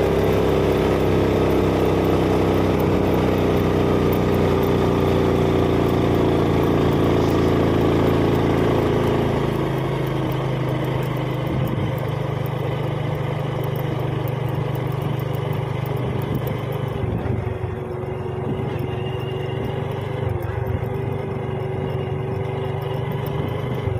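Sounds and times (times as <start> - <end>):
small motorcycle engine running: 0.0 - 23.9.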